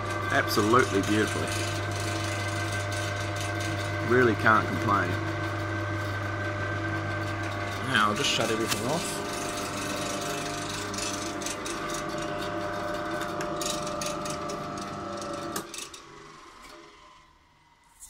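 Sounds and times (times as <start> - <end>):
electric motors humming and rattling: 0.0 - 18.0.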